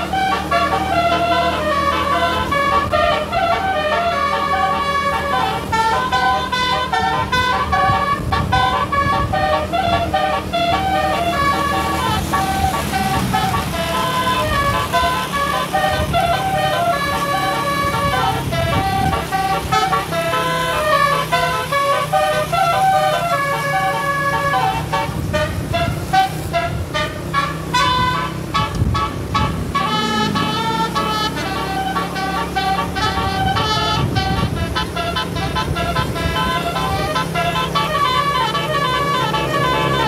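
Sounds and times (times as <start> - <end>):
bus engine running: 0.0 - 40.0
multi-note bus horn tune: 0.0 - 40.0.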